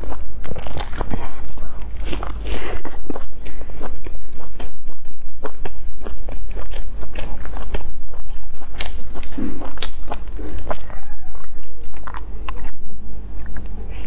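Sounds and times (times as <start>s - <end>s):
chewing food: 0.0s - 14.0s.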